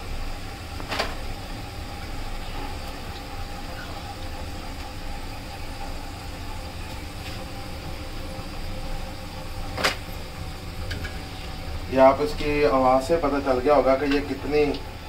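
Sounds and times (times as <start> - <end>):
chips sizzling in hot oil: 0.0 - 15.0.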